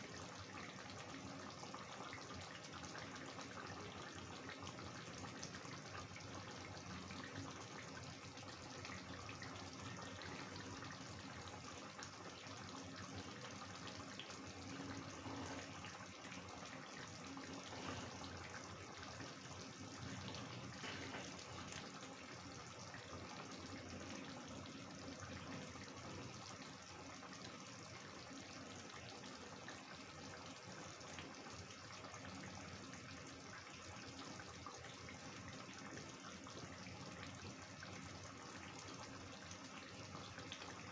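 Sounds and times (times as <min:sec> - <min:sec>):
curry simmering with bubbling hiss: 0:00.0 - 0:40.9.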